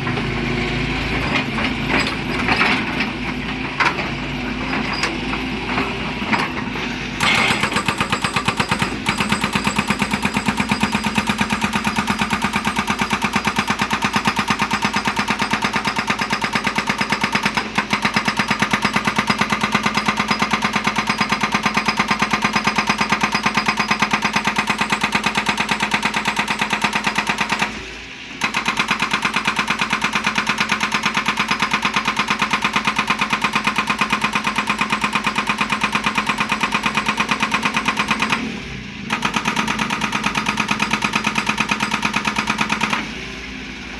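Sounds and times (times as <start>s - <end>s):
diesel engine running: 0.0s - 28.4s, 29.0s - 43.9s
hydraulic breaker hammering stone: 1.1s - 43.3s.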